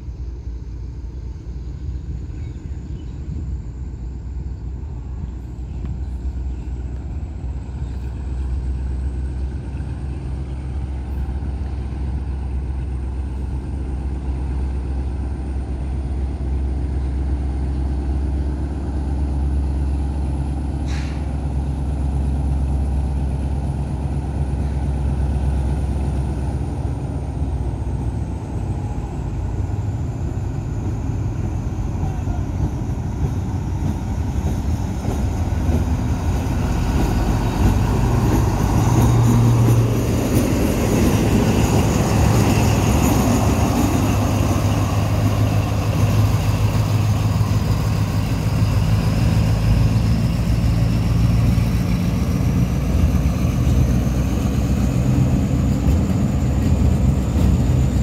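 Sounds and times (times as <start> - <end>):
diesel locomotive engine rumble: 0.0 - 58.0.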